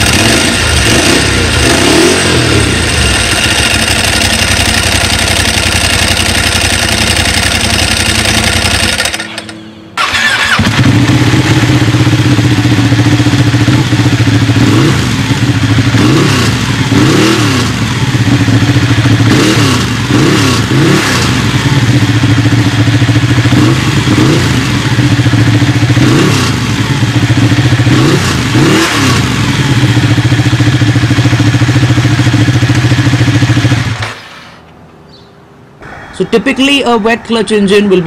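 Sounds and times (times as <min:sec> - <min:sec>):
motorcycle engine revving: 0:00.0 - 0:34.3.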